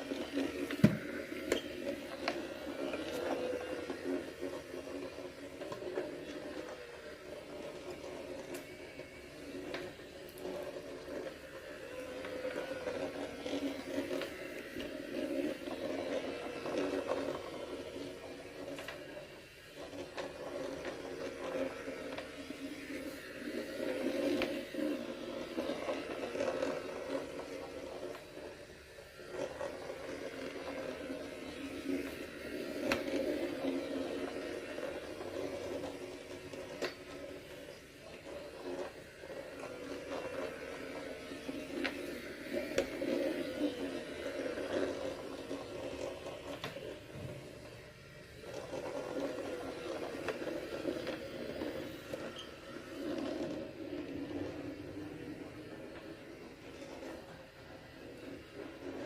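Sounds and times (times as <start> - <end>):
robot vacuum humming: 0.0 - 59.0.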